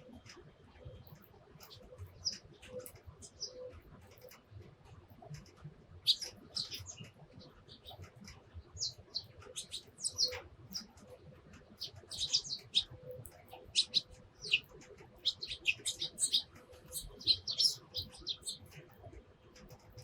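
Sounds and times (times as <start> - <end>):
sparrows chirping: 1.6 - 4.4, 6.0 - 19.0, 19.6 - 20.0.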